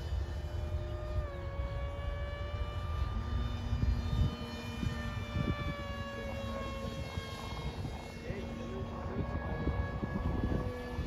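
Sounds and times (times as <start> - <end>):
model plane motor whining: 0.0 - 11.0
wind rumble on microphone: 0.0 - 11.0.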